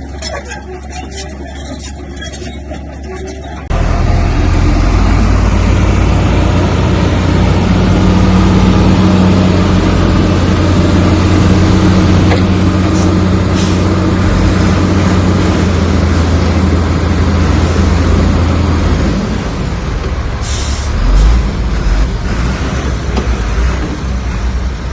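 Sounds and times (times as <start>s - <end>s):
heavy diesel engine under load: 0.0s - 24.9s.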